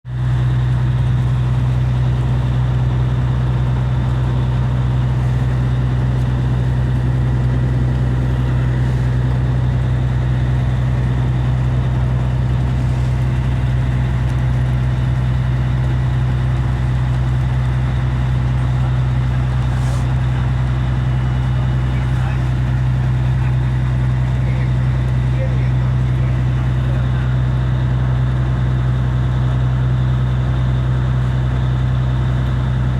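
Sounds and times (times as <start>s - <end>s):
boat engine droning: 0.1s - 32.9s.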